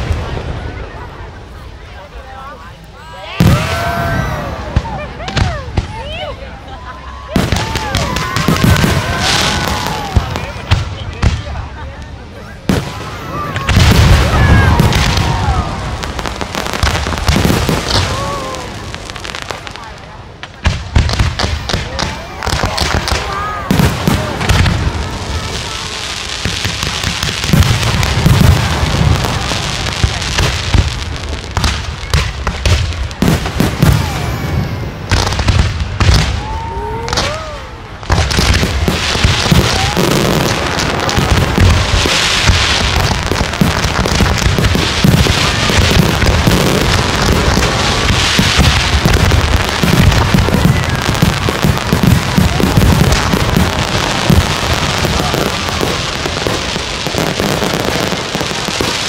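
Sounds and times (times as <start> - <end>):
fireworks booming and crackling: 0.0 - 59.0.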